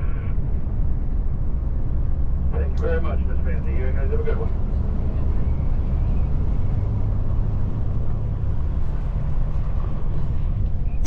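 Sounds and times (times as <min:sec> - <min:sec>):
bus engine and tyres rumbling: 0:00.0 - 0:11.0.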